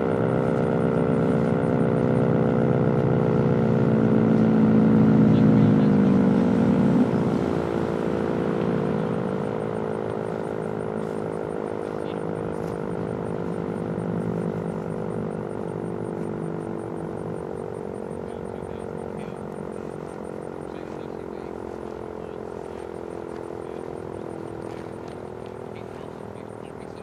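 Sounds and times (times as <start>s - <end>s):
multi-tone warning siren whine: 0.0s - 27.0s.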